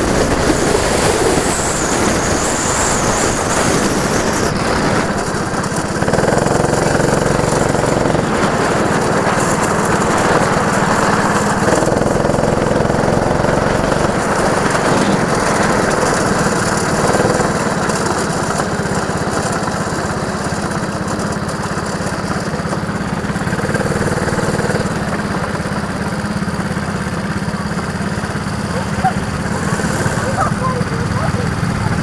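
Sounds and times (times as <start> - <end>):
go-kart engine running: 0.0 - 32.0.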